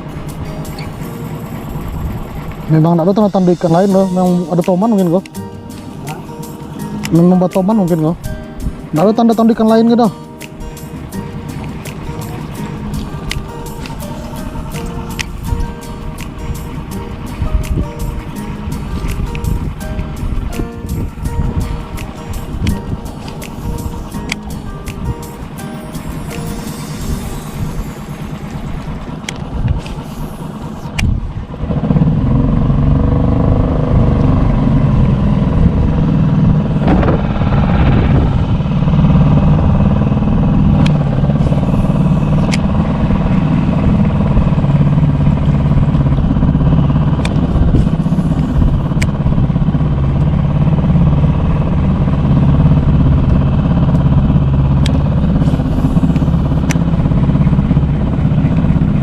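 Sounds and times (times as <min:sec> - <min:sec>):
small engine running steadily: 0:00.0 - 0:59.0.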